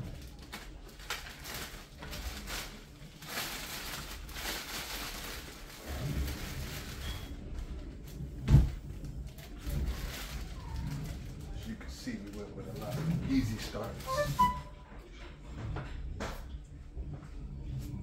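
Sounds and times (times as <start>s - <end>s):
plastic wrap and cardboard rustling: 0.0s - 14.9s.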